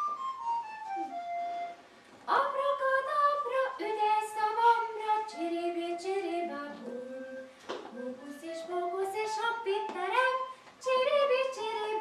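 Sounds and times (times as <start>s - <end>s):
woman singing: 2.3s - 12.0s.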